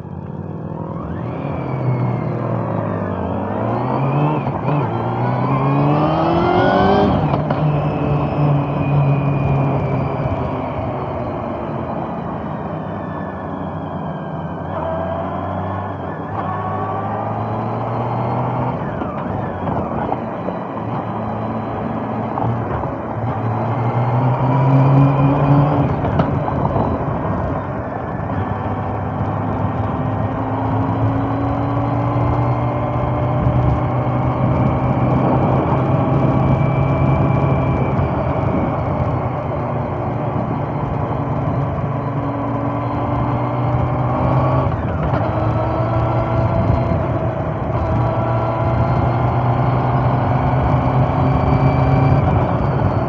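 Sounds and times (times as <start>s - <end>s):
motorcycle engine revving: 0.1s - 53.0s.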